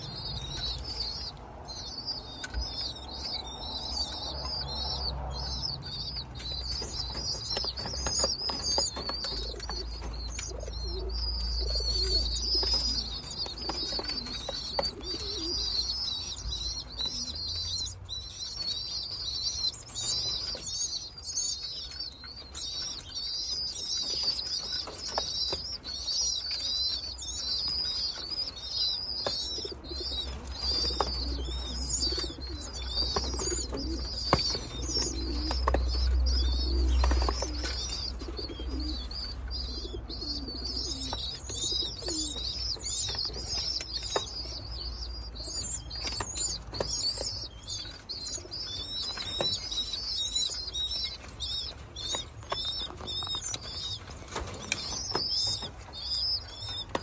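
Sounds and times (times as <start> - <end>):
pigeons cooing: 0.0 - 57.0
pigeons squeaking: 0.0 - 57.0
beaks pecking seed on metal: 0.2 - 57.0.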